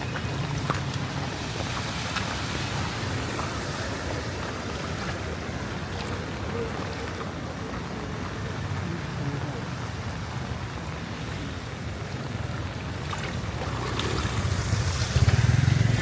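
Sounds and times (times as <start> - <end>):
drips and splashes: 0.0 - 16.0
steady rain: 0.0 - 16.0
water rushing and sloshing: 0.0 - 16.0.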